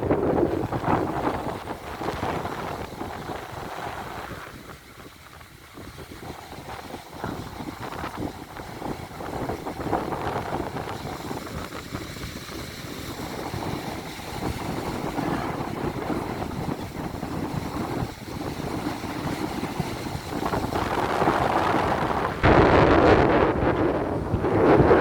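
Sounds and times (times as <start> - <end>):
sea waves: 0.0 - 25.0
wind buffeting microphone: 0.0 - 25.0.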